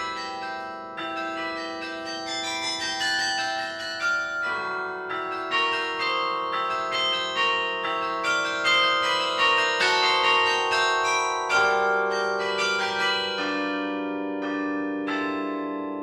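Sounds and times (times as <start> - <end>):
carillon bells playing melody: 0.0 - 16.0.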